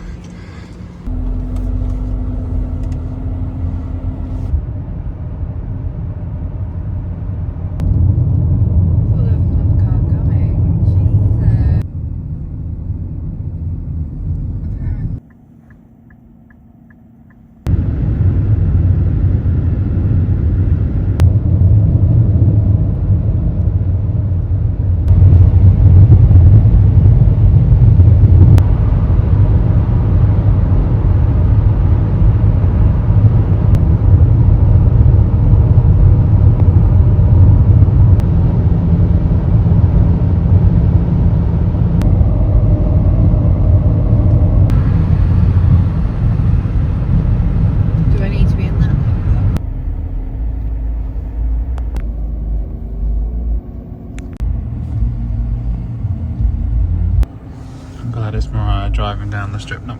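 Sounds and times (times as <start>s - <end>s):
car driving at speed: 0.0s - 59.9s.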